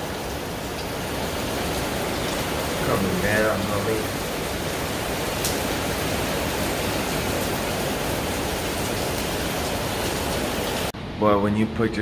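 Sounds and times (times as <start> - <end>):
hard rain pouring: 0.0 - 11.0.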